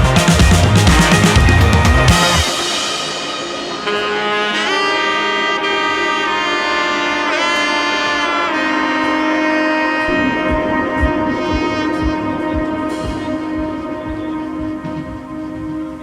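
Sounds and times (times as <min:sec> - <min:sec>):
wind instrument melody: 0:00.0 - 0:16.0.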